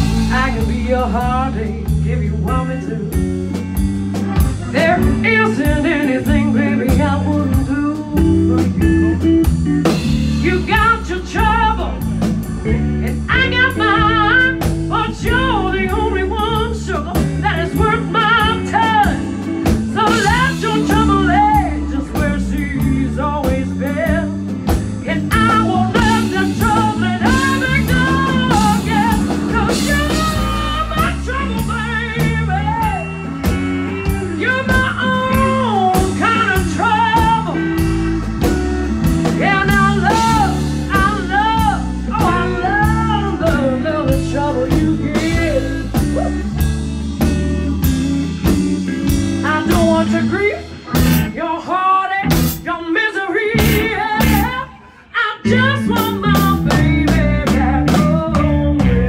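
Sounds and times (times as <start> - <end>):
blues band playing: 0.0 - 59.0.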